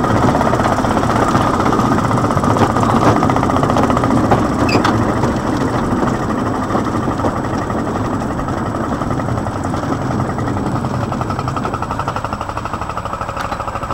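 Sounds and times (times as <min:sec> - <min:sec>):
small locomotive engine puttering: 0:00.0 - 0:13.9.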